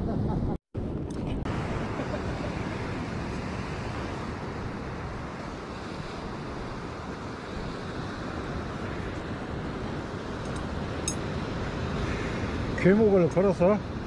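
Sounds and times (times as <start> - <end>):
wind noise on microphone: 0.0 - 14.0
waves washing against rocks: 1.5 - 14.0.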